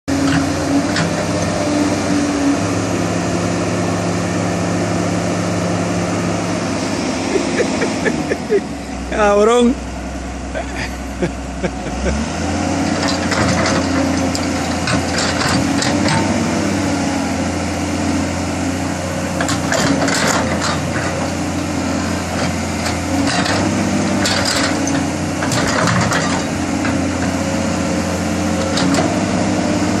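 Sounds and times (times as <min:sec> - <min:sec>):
diesel engine running: 0:00.1 - 0:30.0.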